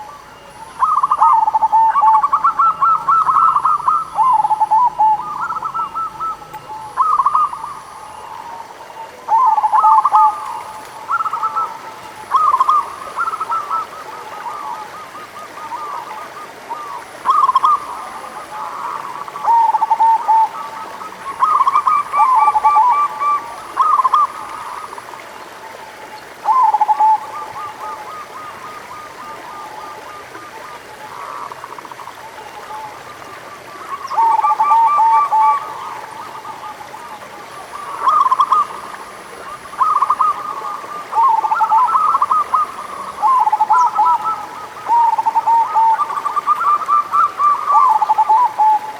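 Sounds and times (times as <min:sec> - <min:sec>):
doves cooing: 0:00.0 - 0:48.9.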